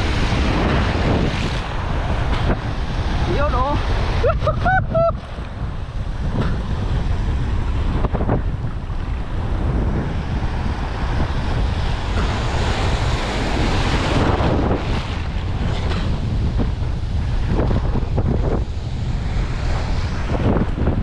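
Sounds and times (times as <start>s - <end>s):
sea surf breaking: 0.0s - 21.0s
wind buffeting microphone: 0.0s - 21.0s.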